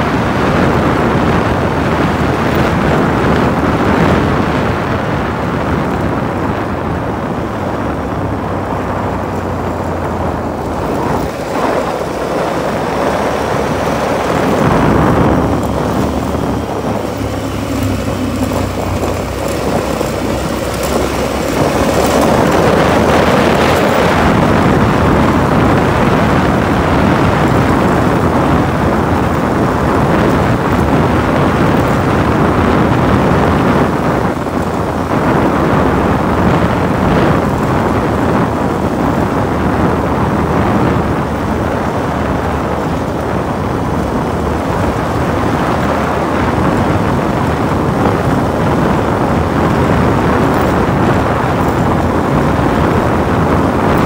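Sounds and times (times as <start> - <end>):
vehicle engine drone: 0.0 - 54.0
wind buffeting microphone: 0.0 - 54.0
tyres on gravel: 0.8 - 54.0.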